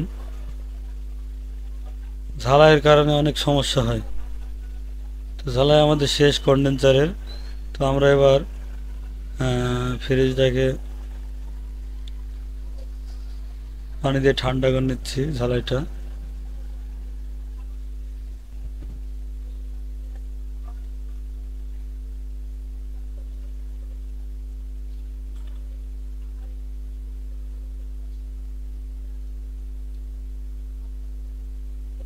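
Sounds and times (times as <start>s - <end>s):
refrigerator compressor humming: 0.0s - 32.0s.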